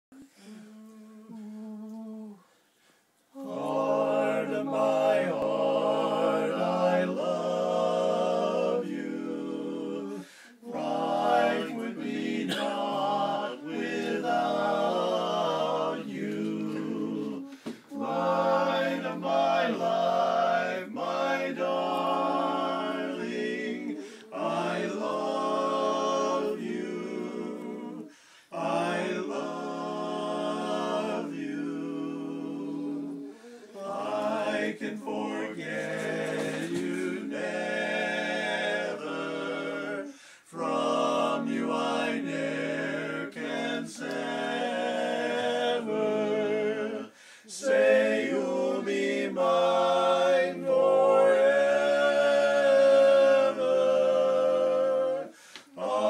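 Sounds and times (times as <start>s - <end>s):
men singing a cappella harmony: 0.2s - 2.5s, 3.3s - 56.0s.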